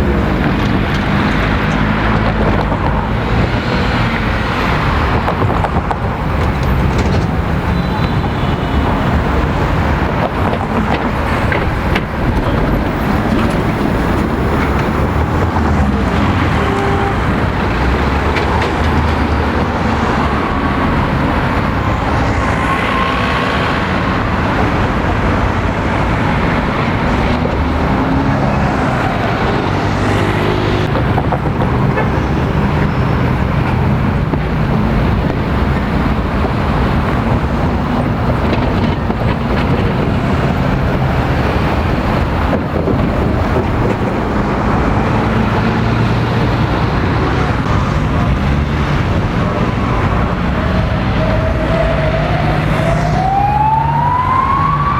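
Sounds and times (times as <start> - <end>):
street traffic passing: 0.0 - 54.9.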